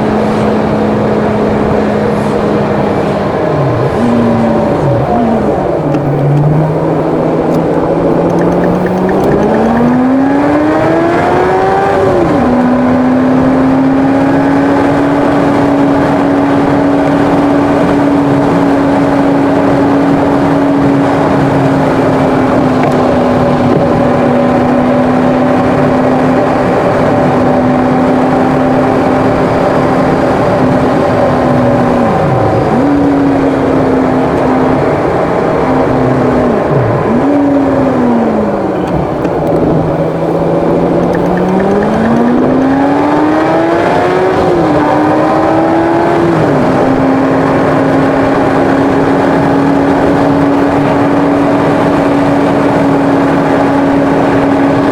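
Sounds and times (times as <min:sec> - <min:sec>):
car engine accelerating: 0:00.0 - 0:54.9
tyre and road noise: 0:00.0 - 0:54.9.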